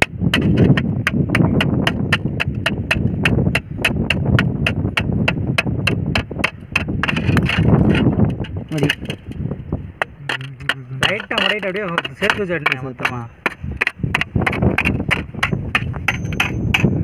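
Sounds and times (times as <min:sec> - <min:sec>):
hammer tapping knife on metal: 0:00.0 - 0:08.0, 0:10.0 - 0:17.0.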